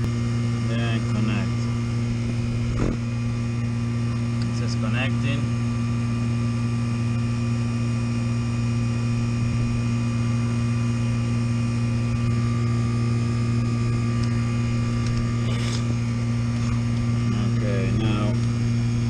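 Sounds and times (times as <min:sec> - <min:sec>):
rooftop hvac unit humming: 0:00.0 - 0:19.0.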